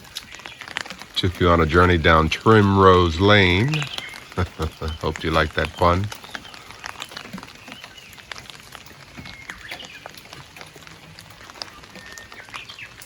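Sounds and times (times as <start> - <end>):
drops ticking: 0.0 - 13.0
rain falling: 0.0 - 13.0.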